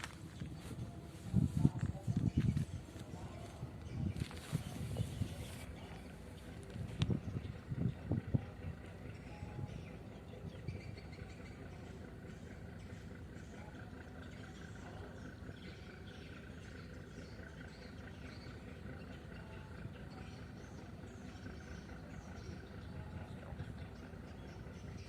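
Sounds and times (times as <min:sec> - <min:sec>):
ship engine rumble: 0:00.0 - 0:25.0.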